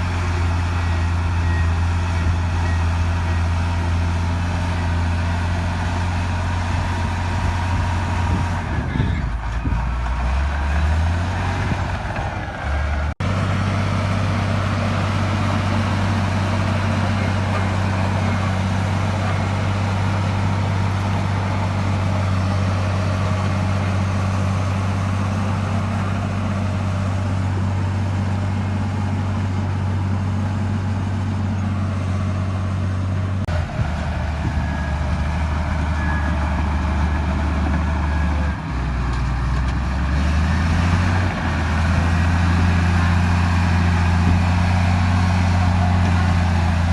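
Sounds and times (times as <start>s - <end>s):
diesel engine running steadily: 0.0s - 46.9s.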